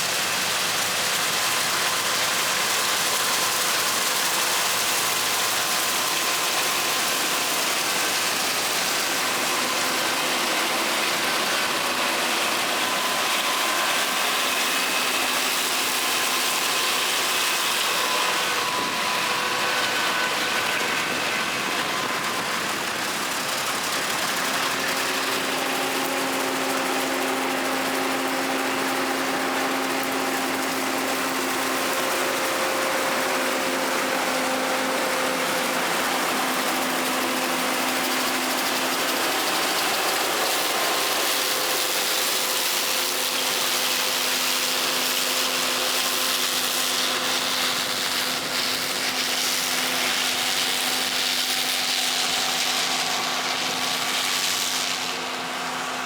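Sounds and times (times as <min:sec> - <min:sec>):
combine harvester running: 0:00.0 - 0:56.0
steady whining tones: 0:00.2 - 0:56.0.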